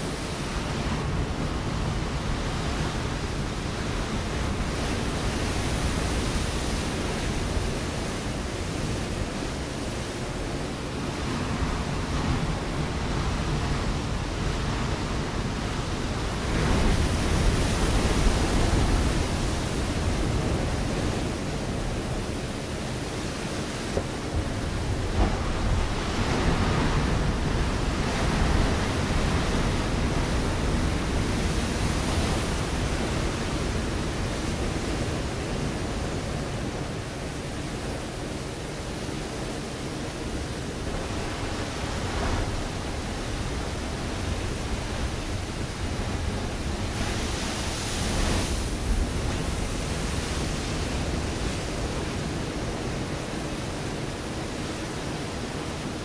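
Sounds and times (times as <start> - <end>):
waves breaking on rocky shore: 0.0 - 56.0.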